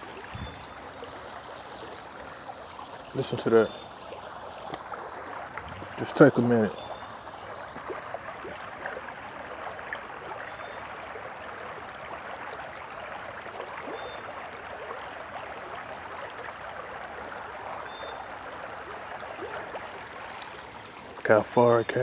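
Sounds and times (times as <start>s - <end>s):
creek water running over rocks: 0.0s - 22.0s.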